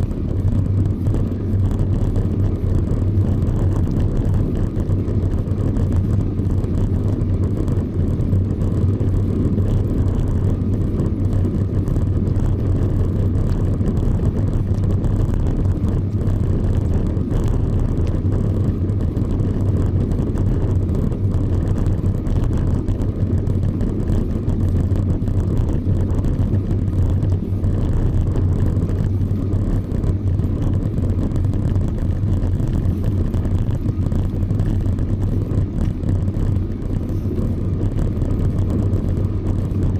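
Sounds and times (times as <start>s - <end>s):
bicycle rolling noise: 0.0s - 39.9s
wind noise on microphone: 0.0s - 39.9s.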